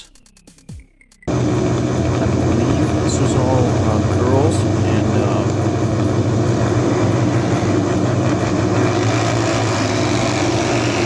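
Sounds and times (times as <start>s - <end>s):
motorcycle engines droning: 1.3s - 11.0s.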